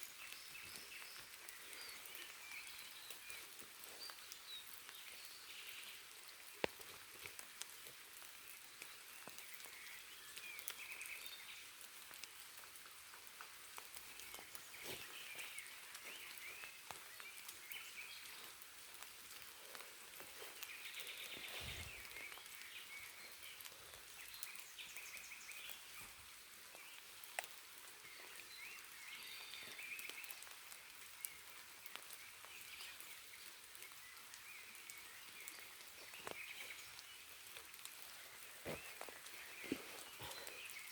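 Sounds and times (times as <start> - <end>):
raindrops ticking: 0.0 - 40.9
steady rain in forest: 0.0 - 40.9.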